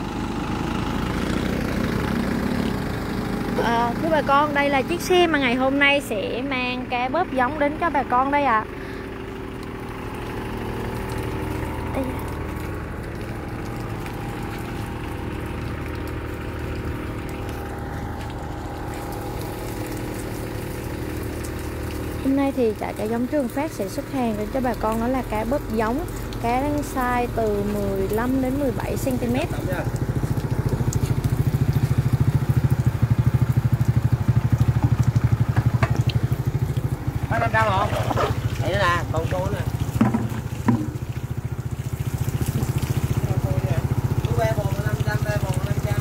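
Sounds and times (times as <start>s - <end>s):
engine idling: 0.0s - 46.0s
truck mechanical hum: 0.0s - 46.0s
water bubbling in barrels: 0.2s - 46.0s.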